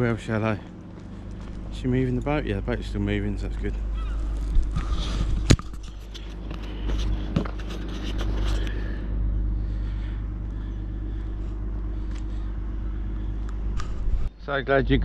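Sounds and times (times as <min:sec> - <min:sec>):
outboard motor running: 0:00.0 - 0:14.3.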